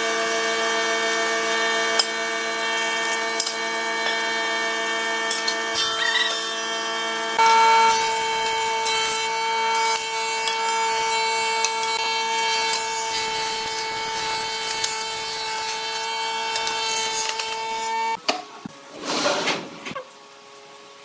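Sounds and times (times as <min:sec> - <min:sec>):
thickness planer whine: 0:00.0 - 0:18.2.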